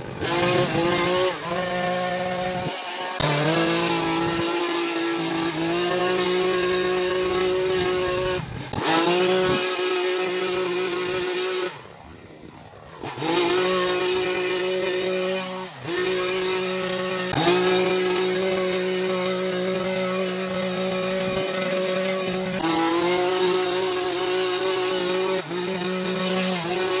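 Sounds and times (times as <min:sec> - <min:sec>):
small petrol engine running: 0:00.0 - 0:27.0.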